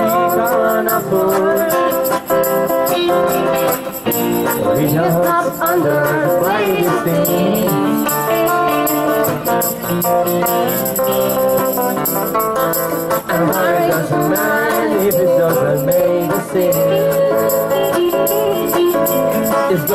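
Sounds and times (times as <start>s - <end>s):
acoustic guitar: 0.0s - 19.9s
electric guitar: 0.0s - 19.9s.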